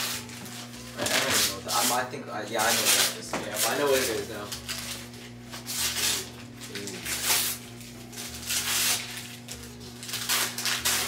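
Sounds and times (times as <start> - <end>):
wrapping paper tearing: 0.0 - 11.0.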